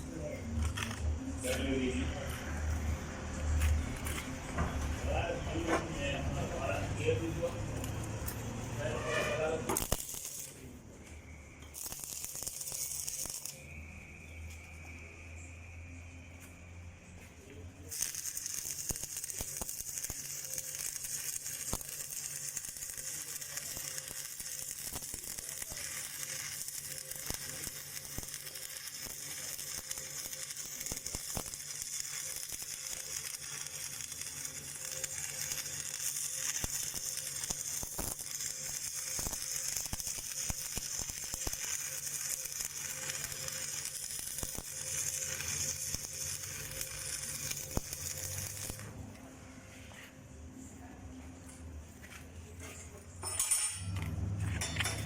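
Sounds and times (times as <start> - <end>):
welding arc crackling and sizzling: 0.0 - 49.2, 54.1 - 55.0.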